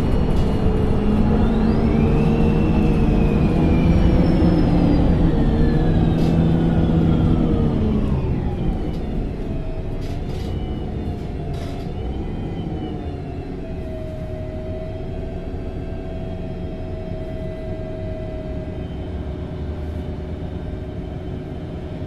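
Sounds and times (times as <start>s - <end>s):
bus engine whine: 0.0s - 22.0s.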